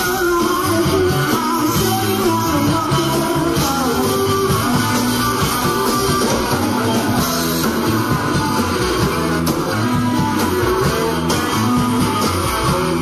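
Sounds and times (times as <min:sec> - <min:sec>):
electric guitar: 0:00.0 - 0:13.0
live rock band playing: 0:00.0 - 0:13.0.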